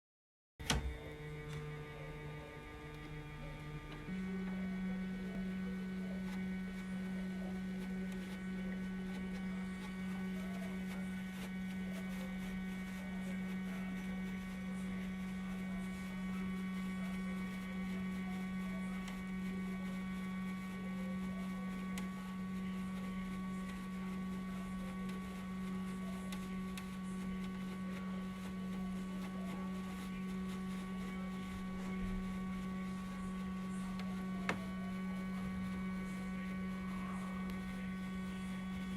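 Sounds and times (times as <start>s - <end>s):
air conditioner motor humming: 0.6s - 38.9s.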